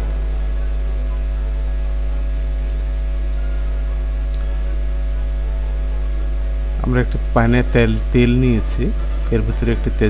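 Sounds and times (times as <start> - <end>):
low electrical mains hum: 0.0 - 10.0.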